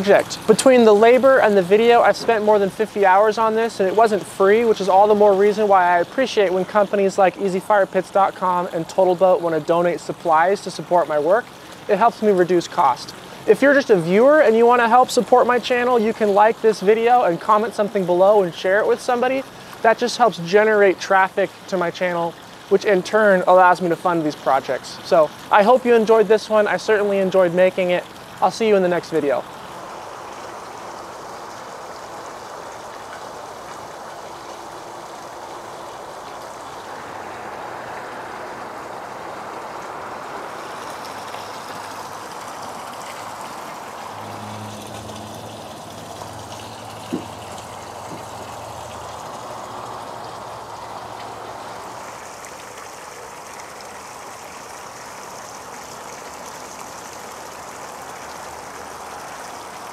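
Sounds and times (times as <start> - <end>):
water splashing into pond: 0.0 - 59.9.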